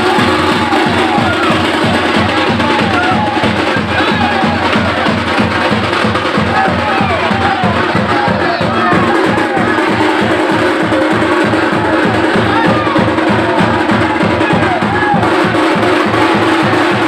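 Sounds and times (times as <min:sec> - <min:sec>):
loud fast drumming: 0:00.0 - 0:17.0
voices: 0:00.0 - 0:17.0.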